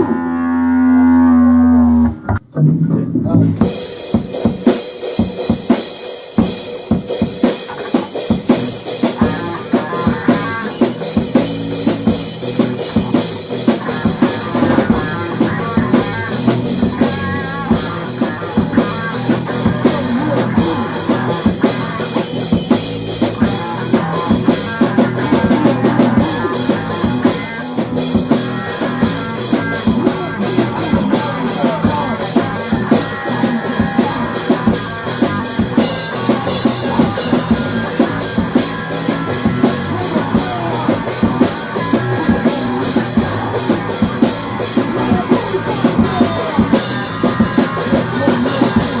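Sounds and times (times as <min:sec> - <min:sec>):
guitar: 0:00.0 - 0:49.0
instrumental rock music: 0:01.7 - 0:49.0
drum kit beat: 0:02.1 - 0:49.0.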